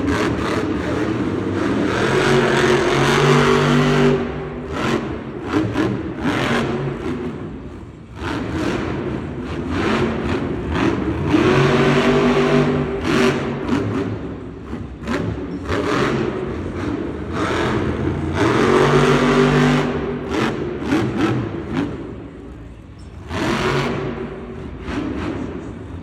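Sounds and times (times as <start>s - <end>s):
truck engine revving hard: 0.0s - 22.3s, 23.2s - 25.9s.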